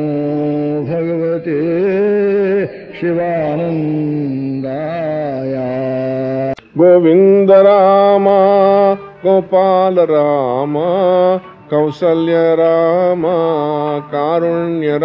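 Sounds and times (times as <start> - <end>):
person chanting long sung notes: 0.0 - 15.0.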